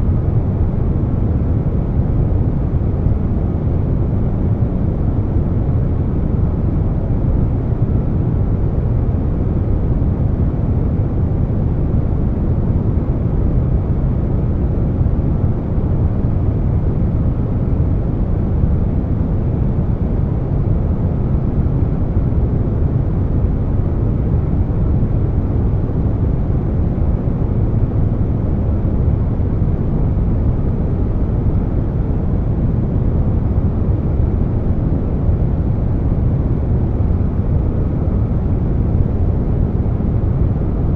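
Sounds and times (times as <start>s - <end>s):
air conditioner hum: 0.0s - 40.9s.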